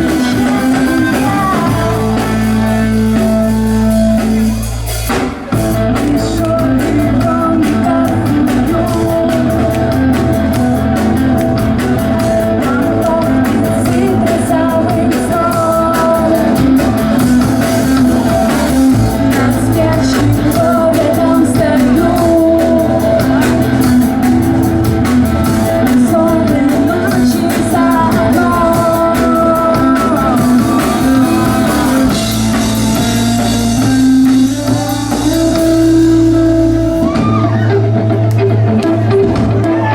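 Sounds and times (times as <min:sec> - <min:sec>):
person singing: 0:00.0 - 0:04.8, 0:05.5 - 0:39.9
rock band playing live: 0:00.0 - 0:39.9.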